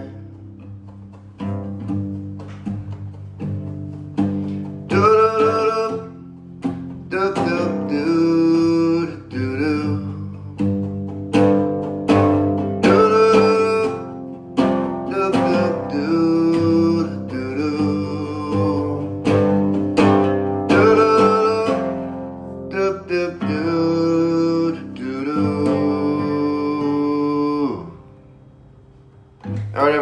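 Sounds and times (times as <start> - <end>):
guitar strumming chords: 0.0 - 30.0.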